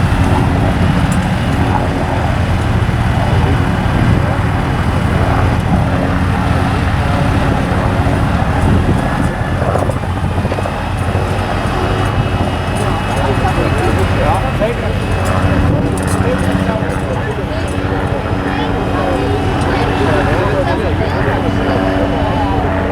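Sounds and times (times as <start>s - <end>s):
tractor engine droning: 0.0s - 22.9s.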